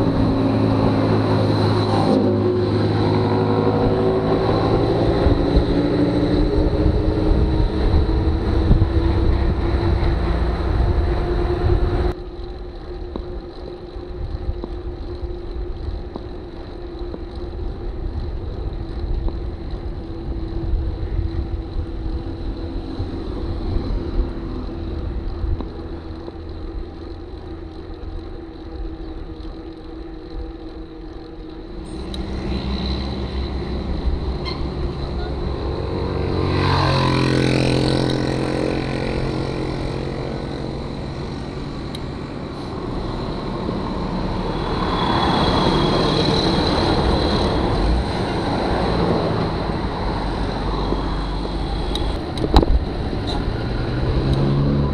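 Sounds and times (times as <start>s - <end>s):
motor vehicle running: 0.0s - 54.9s
wind rumbling on microphone: 0.0s - 54.9s.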